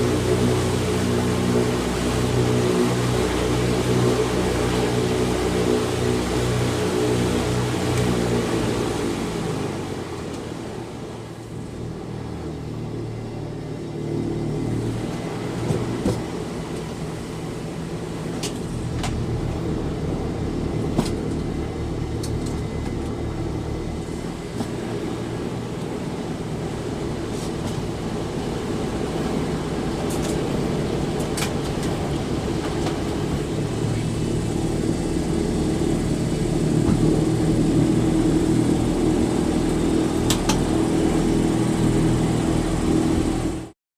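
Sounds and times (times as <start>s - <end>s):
engines droning: 0.0s - 43.7s.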